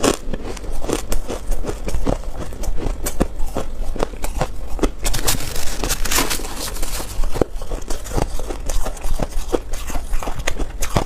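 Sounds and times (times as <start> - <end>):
chewing crunchy ice: 0.0 - 11.0.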